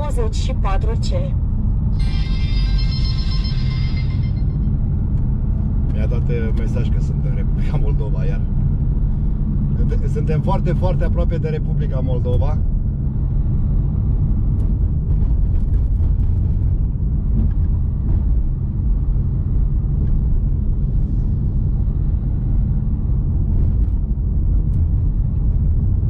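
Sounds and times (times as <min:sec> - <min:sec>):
engine and tyre rumble: 0:00.0 - 0:26.0.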